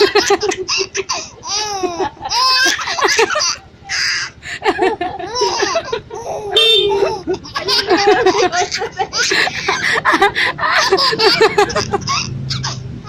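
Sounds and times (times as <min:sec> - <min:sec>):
baby laughing: 0:00.0 - 0:12.9.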